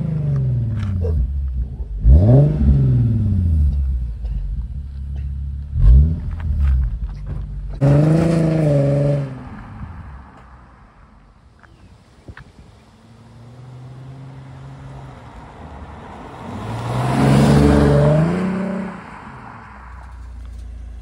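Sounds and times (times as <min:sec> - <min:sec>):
car engine revving: 0:00.0 - 0:10.5, 0:12.7 - 0:21.0.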